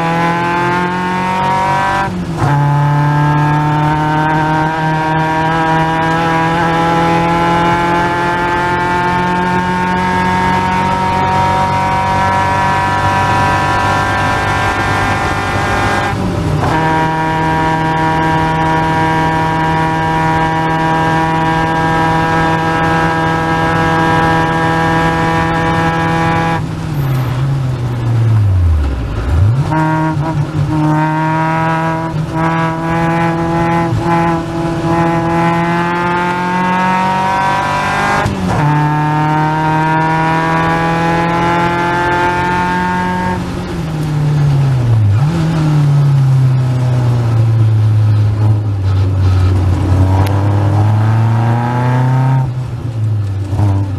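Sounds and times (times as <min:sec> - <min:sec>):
race car engine: 0:00.0 - 0:53.9.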